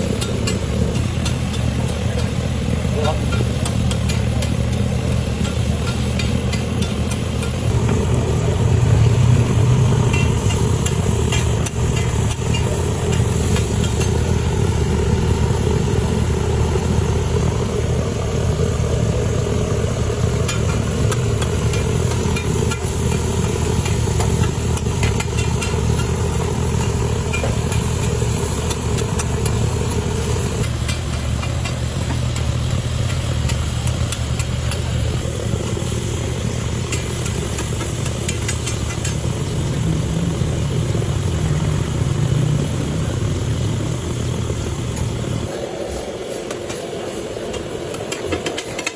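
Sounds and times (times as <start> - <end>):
low mechanical hum: 0.0 - 48.9
liver frying crackles: 0.1 - 48.9.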